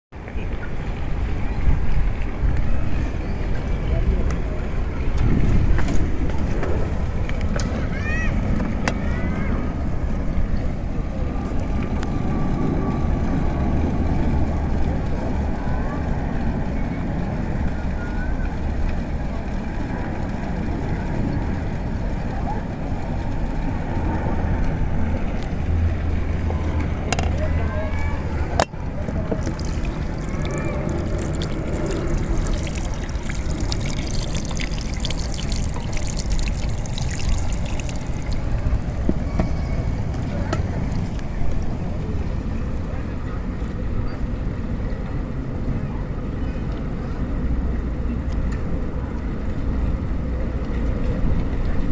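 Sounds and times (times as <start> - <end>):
low rumbling noise: 0.2 - 51.9
trickling water: 0.2 - 51.9.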